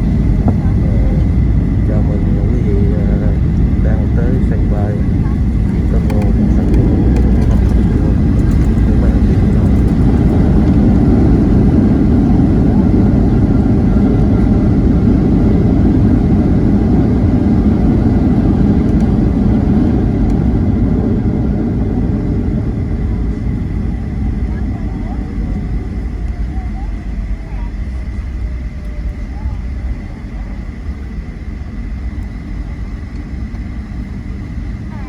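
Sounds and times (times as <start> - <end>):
jet engines and airflow rumble: 0.0 - 35.0.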